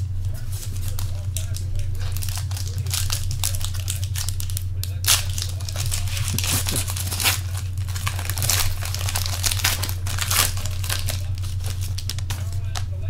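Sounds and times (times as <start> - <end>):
wrapper tearing and crinkling: 0.0 - 12.8
steady low hum: 0.0 - 13.0.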